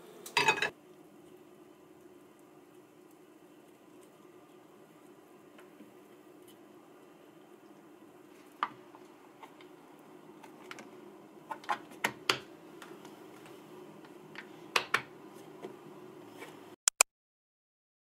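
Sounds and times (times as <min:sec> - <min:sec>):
faint steady hum: 0:00.0 - 0:16.8.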